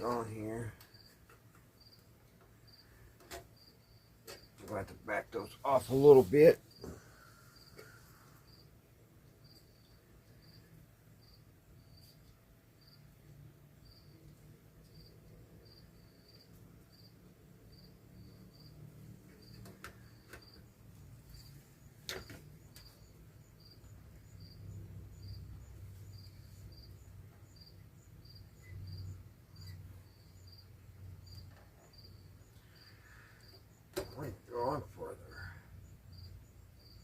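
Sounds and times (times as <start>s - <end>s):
cricket chirping: 0.0s - 1.2s, 1.8s - 4.6s, 6.7s - 8.7s, 9.4s - 37.0s.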